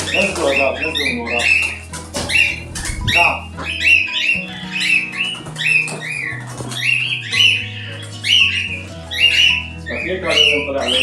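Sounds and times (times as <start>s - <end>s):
background music with low notes: 0.0s - 11.0s
parrots squawking: 0.0s - 11.0s.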